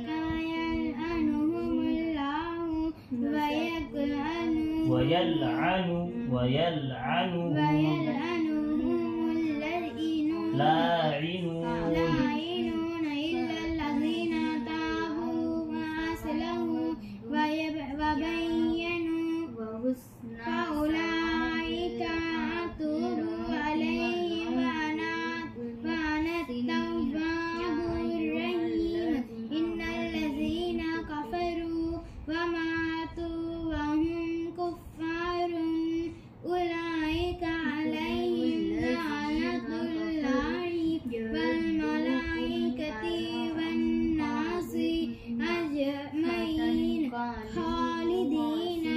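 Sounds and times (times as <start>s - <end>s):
girl chanting recitation: 0.0s - 48.9s.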